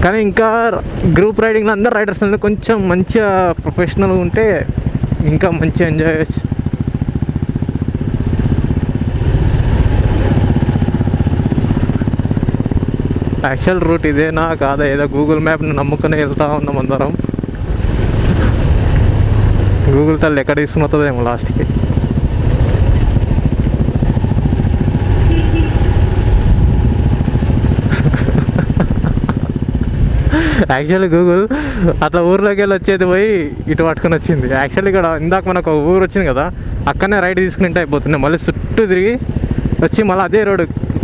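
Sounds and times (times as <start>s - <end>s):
motorcycle engine running: 0.2s - 41.0s.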